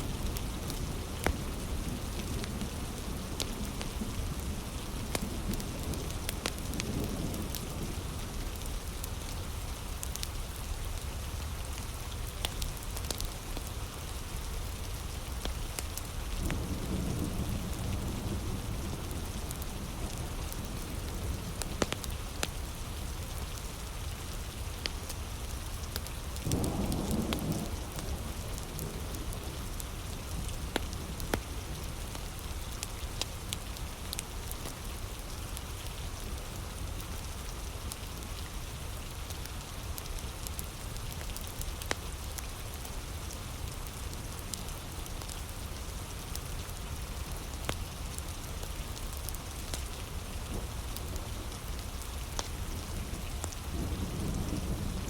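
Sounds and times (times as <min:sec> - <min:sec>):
heavy rain falling: 0:00.0 - 0:55.0
wood fire crackling: 0:05.0 - 0:07.6, 0:08.2 - 0:16.6, 0:18.6 - 0:55.0.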